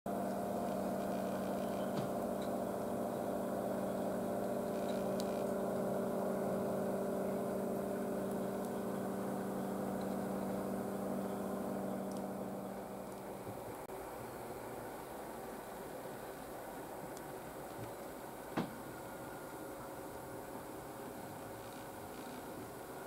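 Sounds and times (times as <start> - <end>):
low mechanical hum: 0.1 - 23.0.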